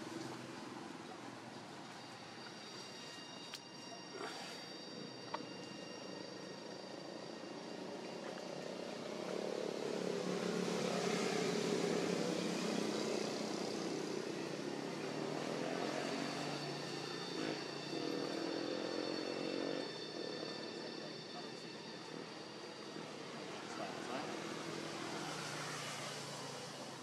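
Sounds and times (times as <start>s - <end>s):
steady high tones: 1.0s - 26.8s.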